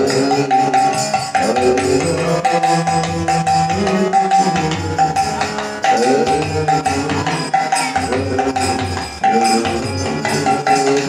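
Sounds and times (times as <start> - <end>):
jingling hand cymbals: 0.0 - 11.0.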